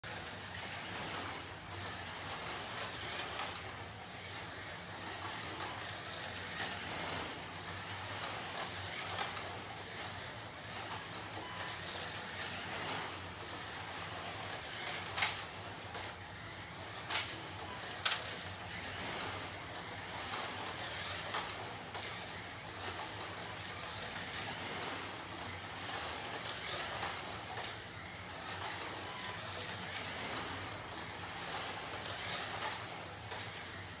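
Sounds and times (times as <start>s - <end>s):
slot car motor whine: 0.0s - 34.0s.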